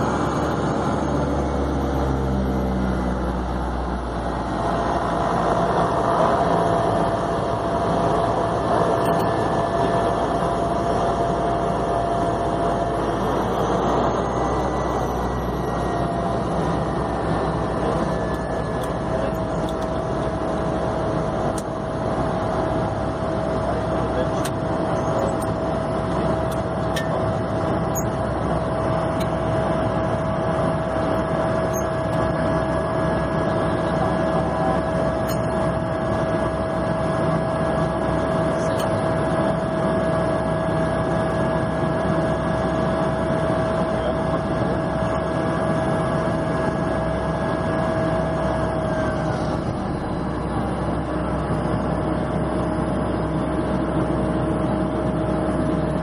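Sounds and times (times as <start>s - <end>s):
engine whine: 0.0s - 56.0s
turboprop engine drone: 0.0s - 56.0s.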